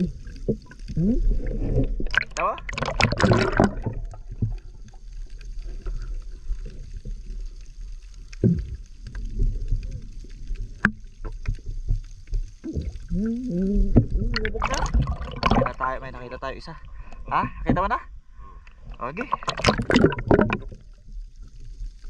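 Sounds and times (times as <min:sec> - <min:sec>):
underwater water rumble: 0:00.0 - 0:22.0.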